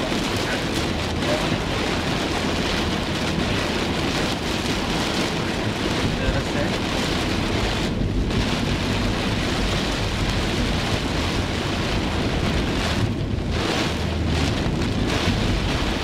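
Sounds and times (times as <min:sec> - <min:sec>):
car rumbling on road: 0:00.0 - 0:16.0
heavy rain on a car: 0:00.0 - 0:16.0.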